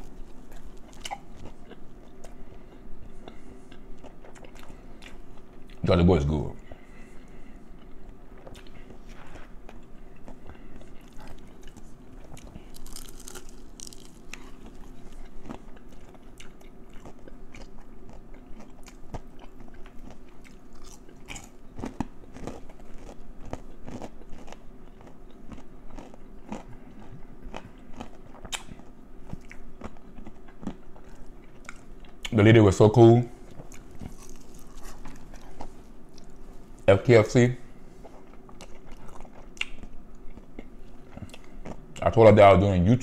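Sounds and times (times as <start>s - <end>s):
person chewing crispy chicken: 0.0s - 5.8s, 6.6s - 32.3s, 33.4s - 36.9s, 37.9s - 42.0s.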